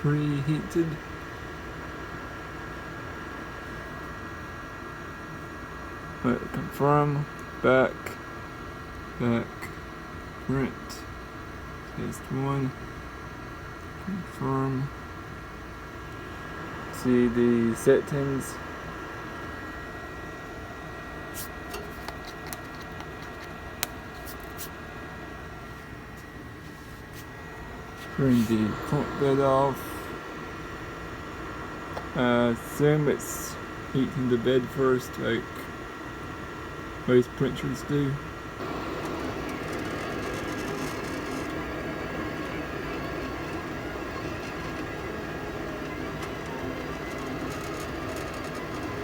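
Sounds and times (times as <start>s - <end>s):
cooling fans whirring: 0.0s - 49.0s
faint high whine: 0.0s - 49.0s
faint steady tones: 0.0s - 49.0s.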